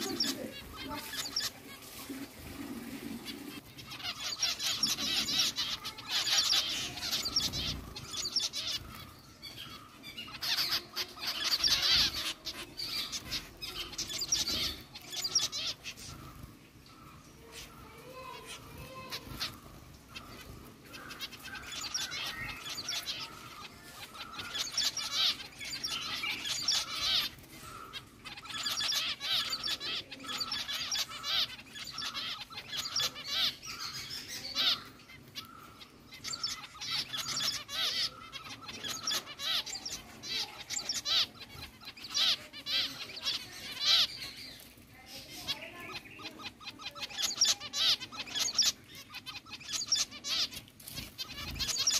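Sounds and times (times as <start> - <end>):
finches chirping: 0.0 - 51.9.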